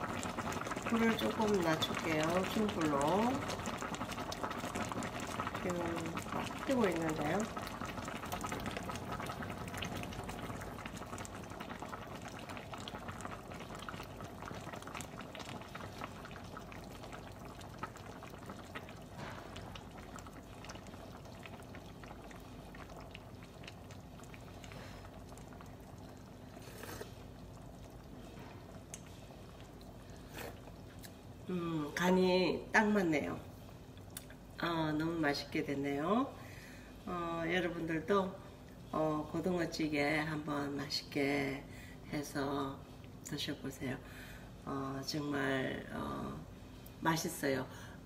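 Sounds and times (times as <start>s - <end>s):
stew bubbling at a boil: 0.0s - 48.0s.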